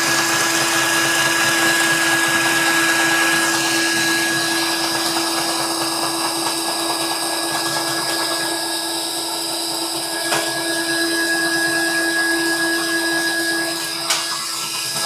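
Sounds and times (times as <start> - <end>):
drain auger motor humming: 0.0 - 15.0.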